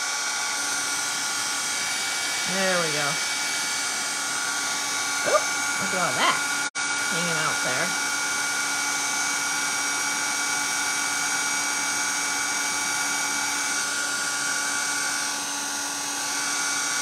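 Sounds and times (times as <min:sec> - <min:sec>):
heat gun fan hiss and motor whine: 0:00.0 - 0:17.0.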